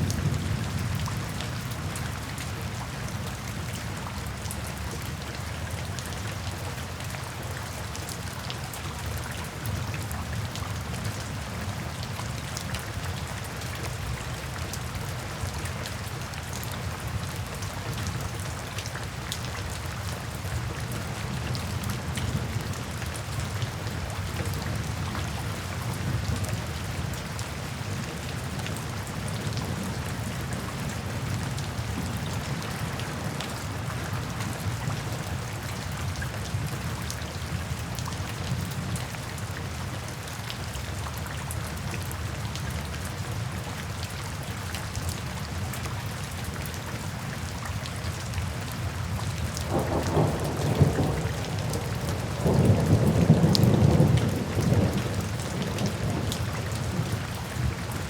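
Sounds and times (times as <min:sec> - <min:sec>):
rain falling into puddles: 0:00.0 - 0:58.0.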